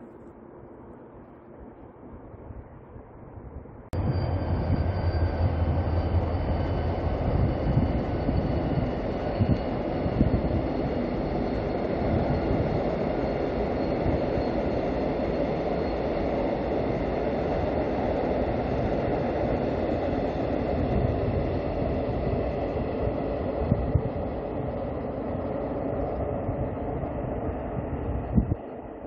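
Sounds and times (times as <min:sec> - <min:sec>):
rumble of train wheels on rails: 0:00.0 - 0:29.0
faint high whine: 0:04.0 - 0:29.0.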